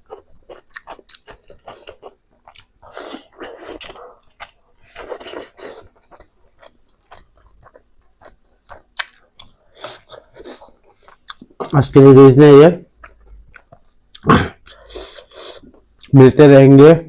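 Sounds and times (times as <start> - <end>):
person chewing meat: 0.0 - 12.0, 12.9 - 16.1.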